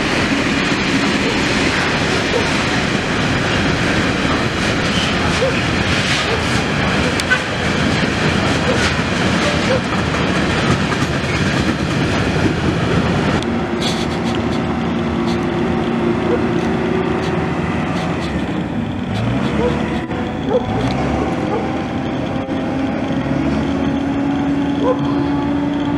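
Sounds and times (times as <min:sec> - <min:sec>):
train rumble with low hum: 0:00.0 - 0:25.9
train wheels clattering on rail joints: 0:00.0 - 0:25.9.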